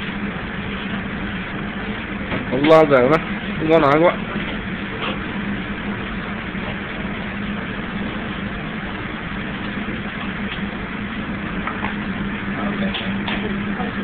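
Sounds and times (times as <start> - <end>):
kitchen machinery drone: 0.0 - 14.0.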